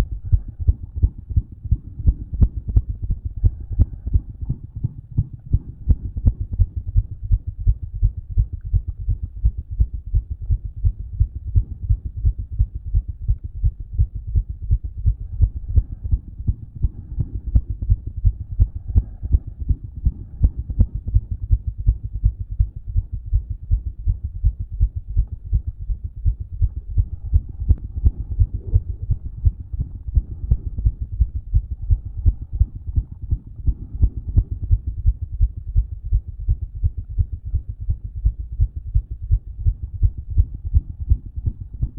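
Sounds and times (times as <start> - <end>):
heart murmur: 0.0 - 41.9
heartbeat through stethoscope: 0.0 - 41.9.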